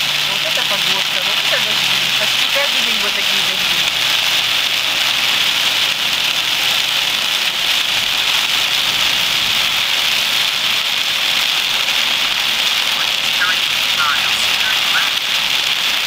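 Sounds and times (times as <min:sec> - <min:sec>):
heavy rain on car roof: 0:00.0 - 0:16.0.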